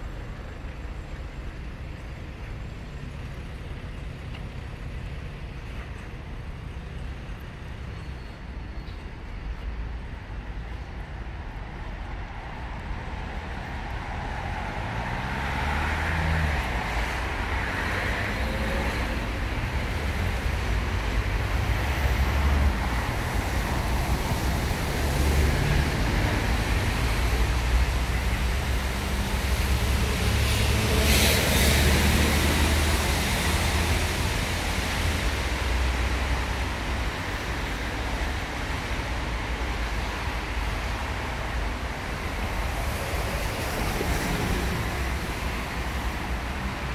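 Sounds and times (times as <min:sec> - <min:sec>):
vehicles passing on road: 0:00.0 - 0:46.9.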